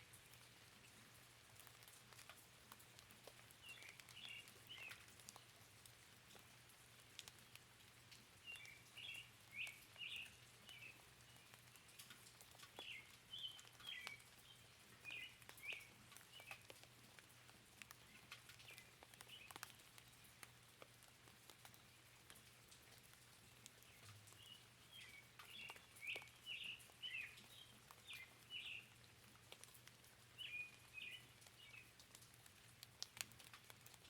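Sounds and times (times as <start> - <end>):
light rain with drops ticking: 0.0 - 34.0.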